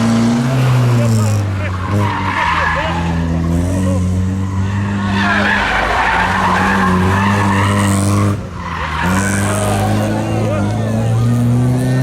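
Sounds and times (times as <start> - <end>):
tyres squealing: 0.4 - 11.0.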